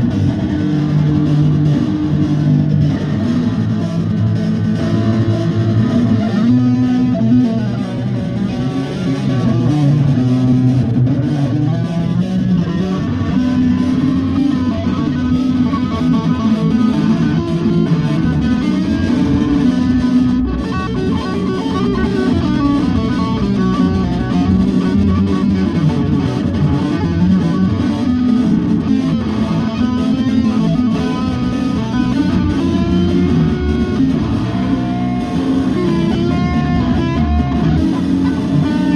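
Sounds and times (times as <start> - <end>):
band playing guitar-led music: 0.0 - 38.9
bass guitar: 0.0 - 38.9.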